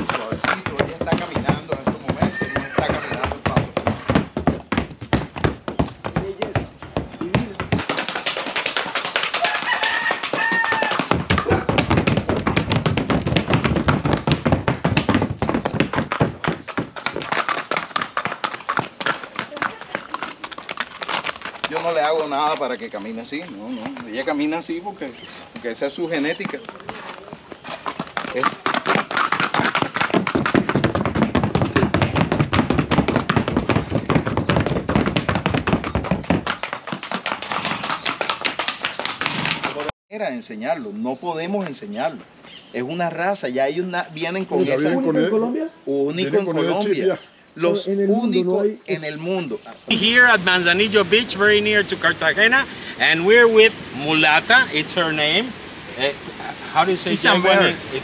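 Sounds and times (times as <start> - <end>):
horse hooves on hard ground: 0.0 - 39.9, 41.3 - 43.2, 49.9 - 58.0.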